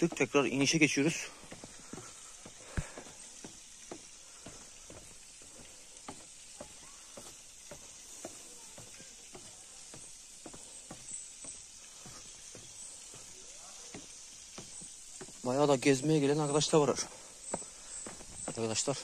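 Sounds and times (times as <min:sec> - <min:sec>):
footsteps on stairs and trail: 0:00.0 - 0:19.0
steady high hiss: 0:00.0 - 0:19.0.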